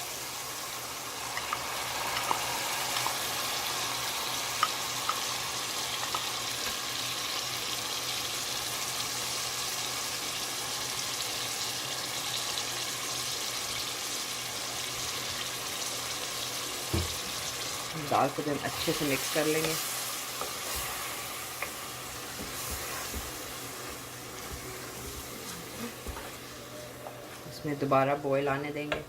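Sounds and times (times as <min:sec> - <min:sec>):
masala sizzling in a pan: 0:00.0 - 0:29.0.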